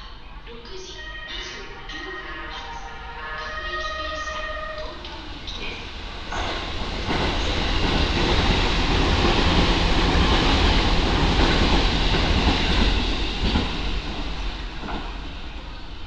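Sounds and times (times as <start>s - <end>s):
electric train passing: 0.0s - 16.0s.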